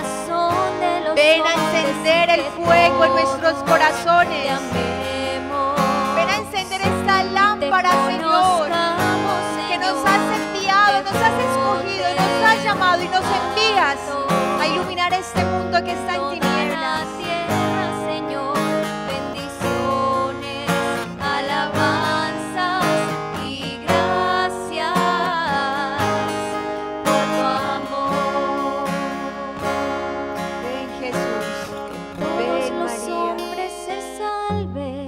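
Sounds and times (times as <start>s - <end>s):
strummed acoustic guitar: 0.0s - 34.8s
person singing: 0.0s - 35.0s.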